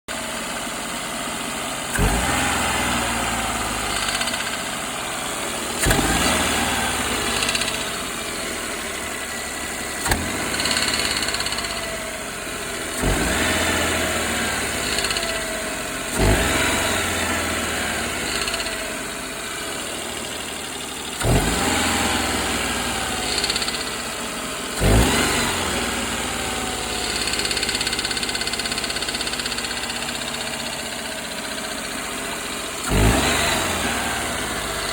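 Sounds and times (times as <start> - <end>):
engine rattle: 0.1 - 34.9
car engine revving: 1.9 - 34.9.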